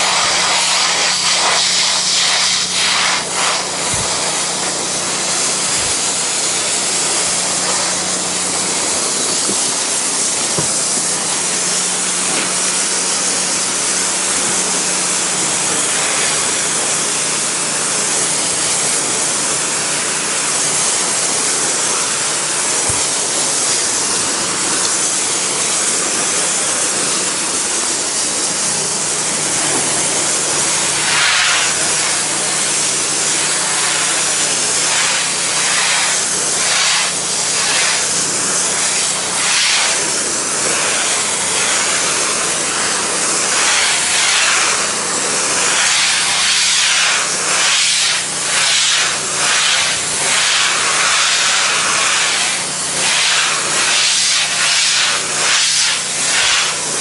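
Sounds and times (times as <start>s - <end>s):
pressure washer engine humming: 0.0s - 57.0s
water spray hissing on deck: 0.0s - 57.0s.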